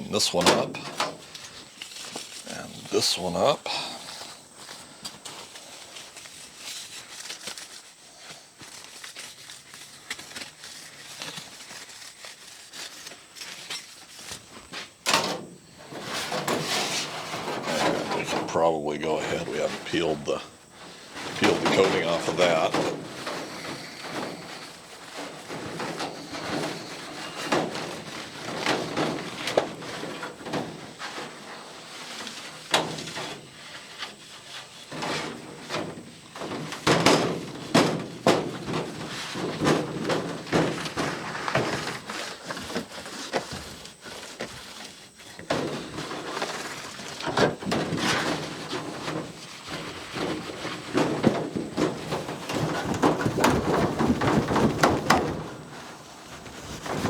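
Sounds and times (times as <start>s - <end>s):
scraping and rustling: 0.0s - 57.0s.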